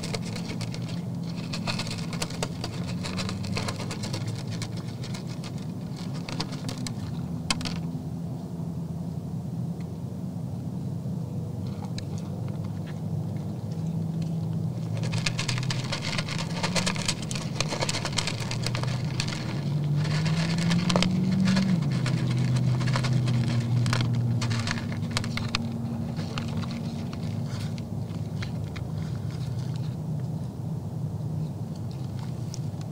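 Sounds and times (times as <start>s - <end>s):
deer chewing feed: 0.0s - 7.8s, 11.7s - 30.5s, 31.7s - 32.9s.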